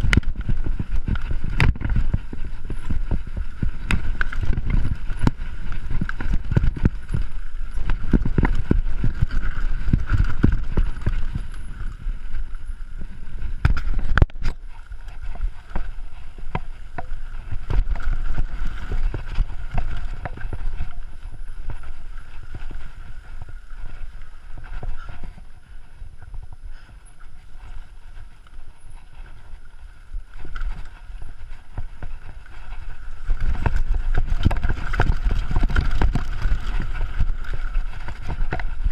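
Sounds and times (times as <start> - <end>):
mountain bike rattling: 0.0 - 38.9.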